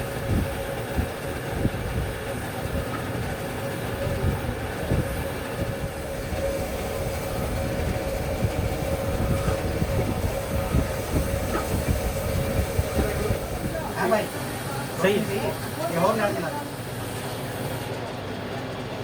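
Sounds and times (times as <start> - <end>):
woodworking machine humming: 0.0 - 19.0.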